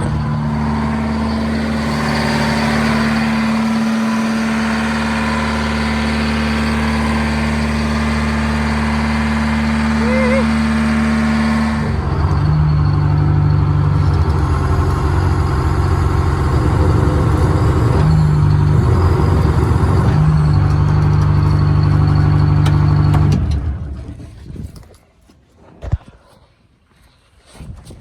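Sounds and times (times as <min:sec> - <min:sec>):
excavator diesel engine running: 0:00.0 - 0:24.2.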